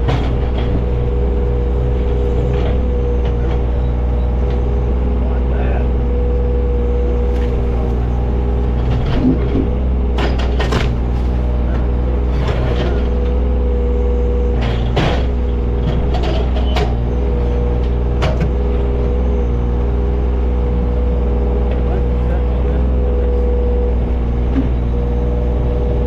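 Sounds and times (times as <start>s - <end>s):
excavator clanks and knocks: 0.0s - 5.6s, 7.0s - 26.0s
diesel engine running: 0.0s - 26.0s.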